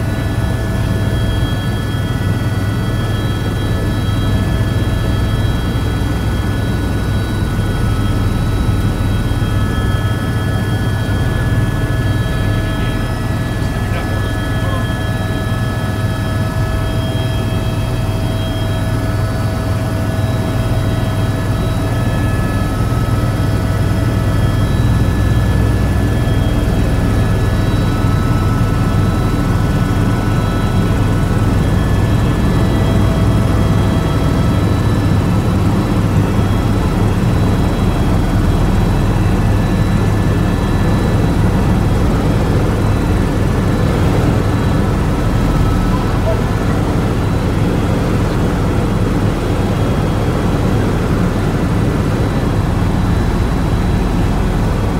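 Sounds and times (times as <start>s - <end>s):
helicopter rotor and engine drone: 0.0s - 54.9s.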